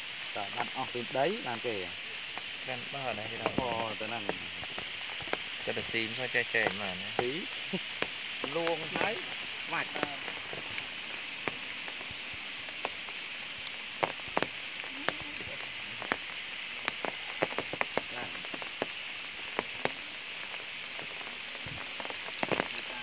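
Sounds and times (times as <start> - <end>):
drips striking leaves and stone: 0.0 - 23.0
rain hissing: 0.0 - 23.0.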